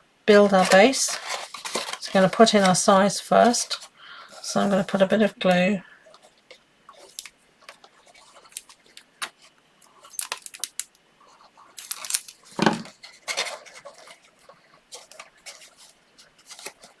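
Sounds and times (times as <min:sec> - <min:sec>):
paper rustling: 0:00.5 - 0:05.3, 0:06.2 - 0:17.0.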